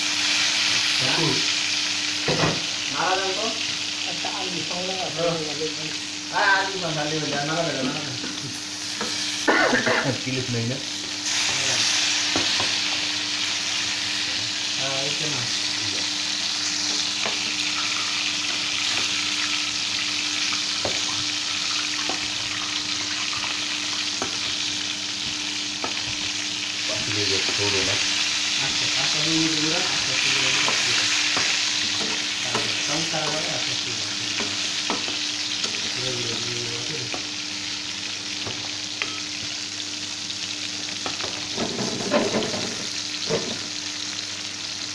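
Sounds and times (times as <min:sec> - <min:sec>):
fish sizzling in frying pan: 0:00.0 - 0:44.9.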